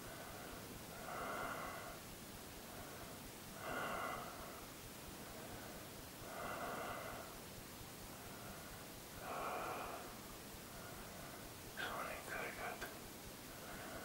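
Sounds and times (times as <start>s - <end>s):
man breathing slowly: 0.0s - 11.6s, 13.4s - 14.0s.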